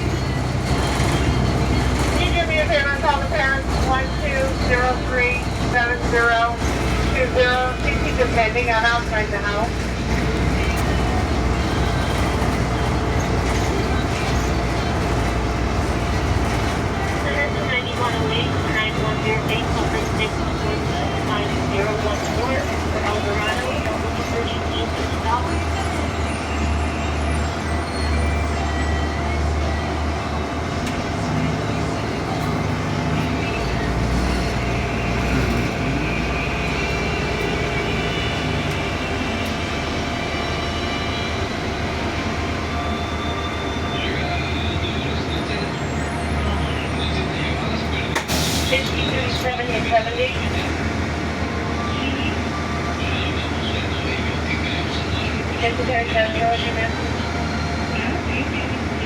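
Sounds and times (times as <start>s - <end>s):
bus engine and cabin drone: 0.0s - 59.0s.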